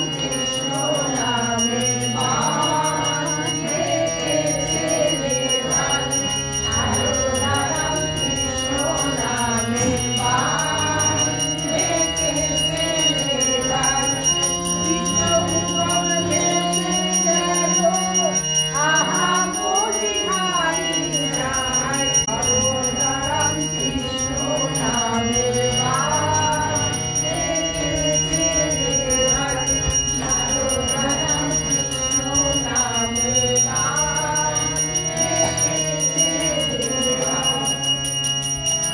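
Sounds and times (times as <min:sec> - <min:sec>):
bell ringing: 0:00.0 - 0:38.9
group singing a hymn: 0:00.0 - 0:38.9.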